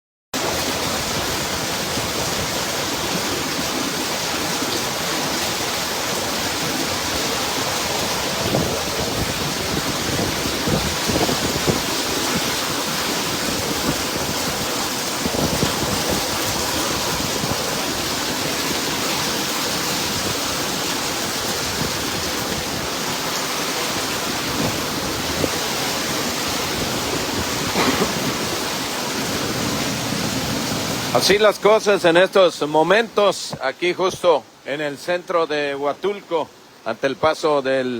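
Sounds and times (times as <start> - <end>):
rushing floodwater: 0.4 - 37.9.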